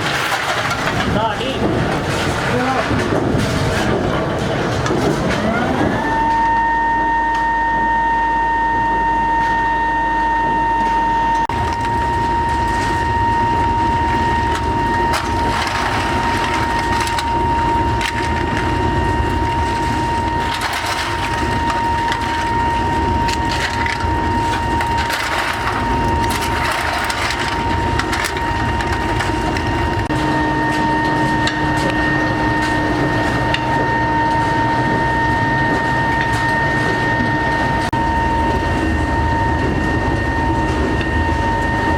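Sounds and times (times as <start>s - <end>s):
metal knocks and scraping: 0.0s - 6.2s, 11.4s - 41.9s
machinery high whine: 0.0s - 41.9s.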